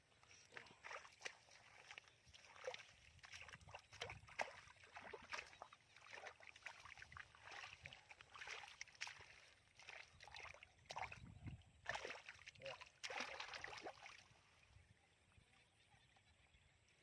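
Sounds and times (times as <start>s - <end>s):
hands splashing in mud and water: 0.5s - 14.3s.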